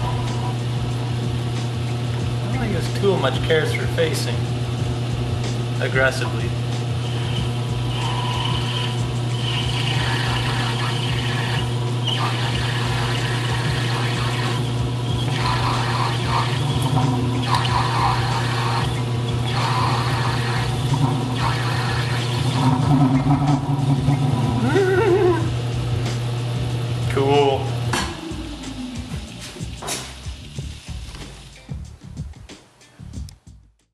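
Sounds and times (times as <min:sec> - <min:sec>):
metal cutting on lathe: 0:00.0 - 0:31.1
lathe motor hum: 0:00.0 - 0:31.6.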